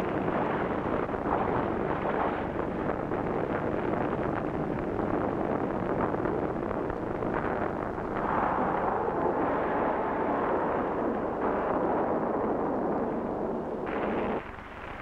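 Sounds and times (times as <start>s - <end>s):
large fire roaring: 0.0s - 15.0s.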